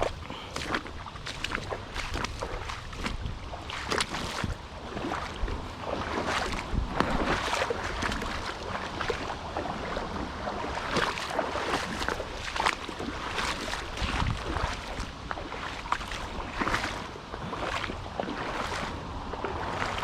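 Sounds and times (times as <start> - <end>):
water sloshing around wading legs: 0.0 - 20.0.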